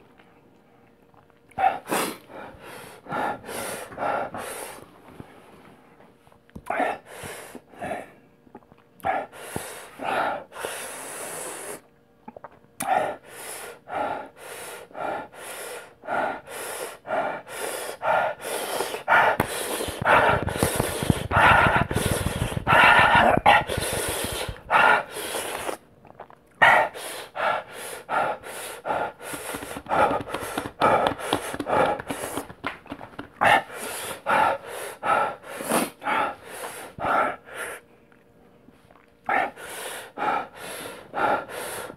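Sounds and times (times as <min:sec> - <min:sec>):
man breathing hard through teeth: 0:01.5 - 0:05.3, 0:06.6 - 0:08.2, 0:09.0 - 0:11.9, 0:12.8 - 0:25.8, 0:26.6 - 0:37.9, 0:39.3 - 0:41.9.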